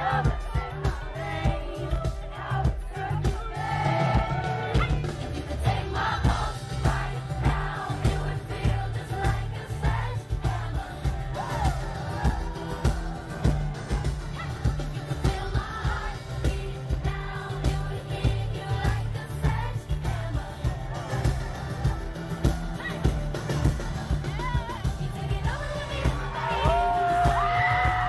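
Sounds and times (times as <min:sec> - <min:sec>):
amplified dance-pop music: 0:00.0 - 0:28.0
female vocal group singing: 0:00.0 - 0:28.0.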